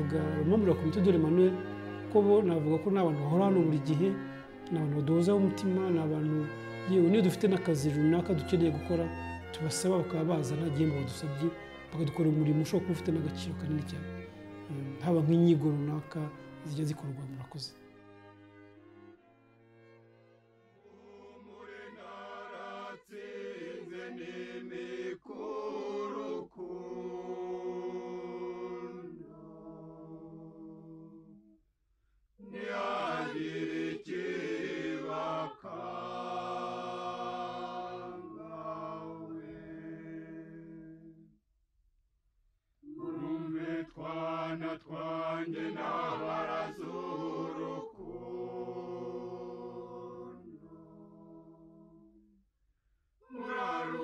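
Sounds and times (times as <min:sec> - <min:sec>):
choir singing: 0:00.0 - 0:17.7, 0:20.8 - 0:31.4, 0:32.4 - 0:41.3, 0:42.8 - 0:52.4, 0:53.2 - 0:54.0.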